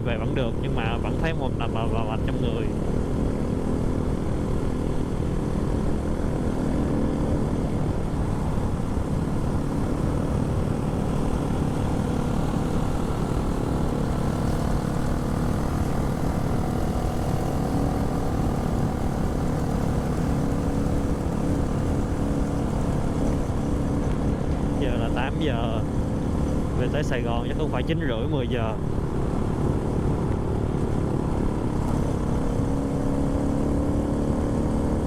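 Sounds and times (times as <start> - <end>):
motorbike engine running: 0.0 - 35.0.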